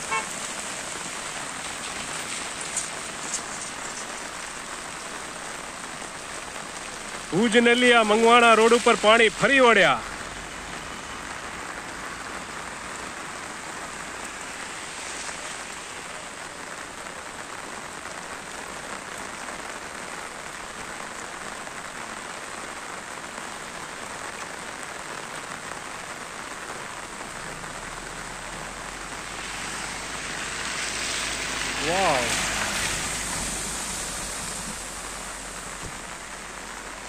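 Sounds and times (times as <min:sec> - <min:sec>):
rain on wet road: 0:00.0 - 0:37.0.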